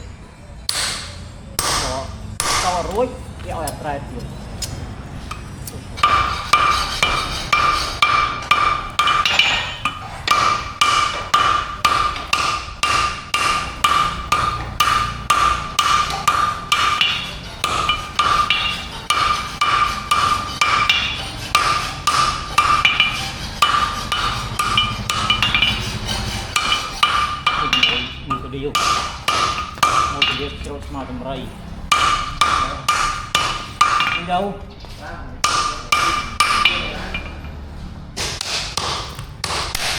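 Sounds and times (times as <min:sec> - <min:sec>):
hammer striking steel on anvil: 0:00.7 - 0:03.0, 0:05.3 - 0:31.2, 0:31.8 - 0:34.5, 0:35.4 - 0:37.6, 0:38.2 - 0:39.9.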